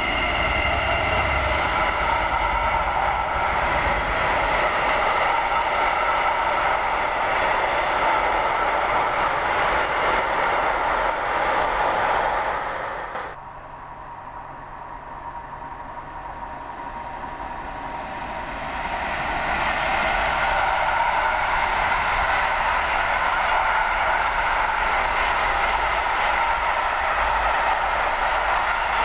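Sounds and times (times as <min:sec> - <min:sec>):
freight train wheels rolling on rails: 0:00.0 - 0:29.0.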